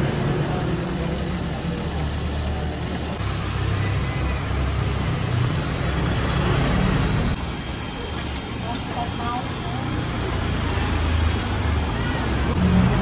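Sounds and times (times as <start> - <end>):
eggs frying in a wok: 0.0 - 12.7
gas burner roaring: 0.0 - 13.0.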